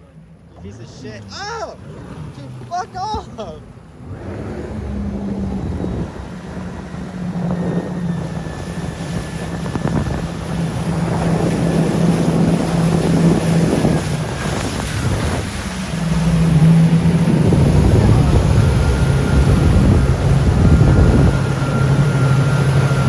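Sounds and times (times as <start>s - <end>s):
jet ski engine running: 0.0s - 23.0s
water splashing: 0.2s - 23.0s
wind buffeting microphone: 2.9s - 23.0s.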